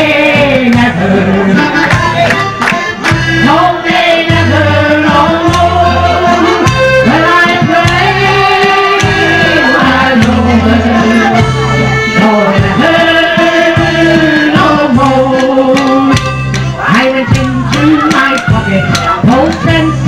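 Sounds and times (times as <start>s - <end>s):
electronic keyboard tune: 0.0s - 20.0s
person singing along: 3.4s - 20.0s.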